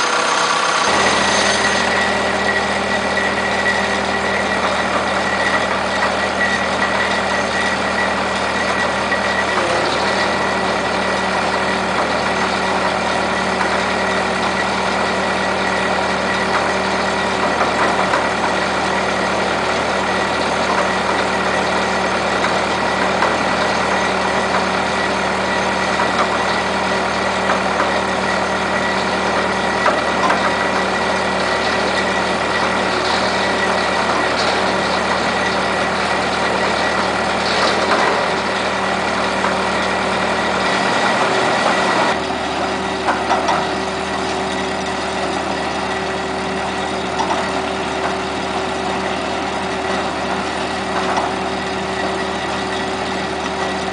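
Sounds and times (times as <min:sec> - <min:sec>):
engine running with mechanical drone: 0:00.0 - 0:53.9.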